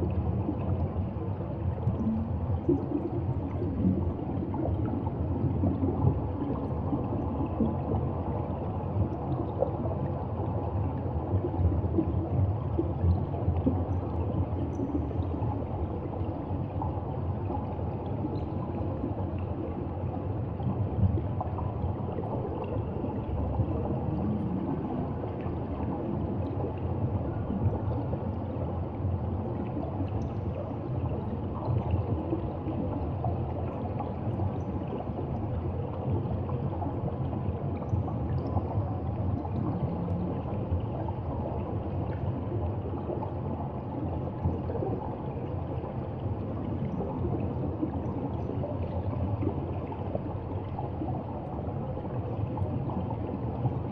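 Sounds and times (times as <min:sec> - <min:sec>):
underwater rushing and gurgling: 0:00.0 - 0:53.9.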